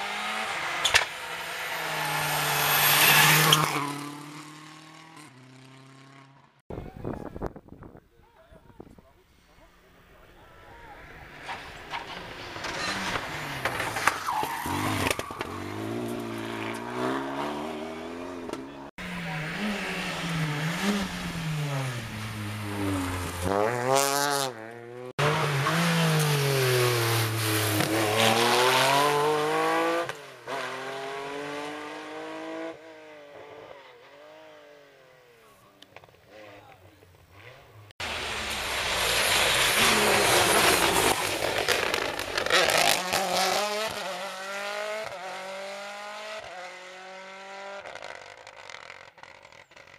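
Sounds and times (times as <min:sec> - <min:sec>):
rally cars racing past: 0:00.0 - 0:06.4, 0:10.5 - 0:49.9.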